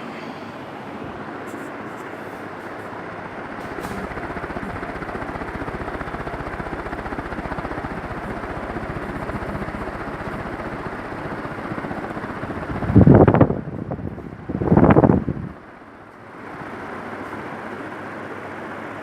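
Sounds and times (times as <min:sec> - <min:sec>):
ceiling fan whooshing: 0:00.0 - 0:19.0.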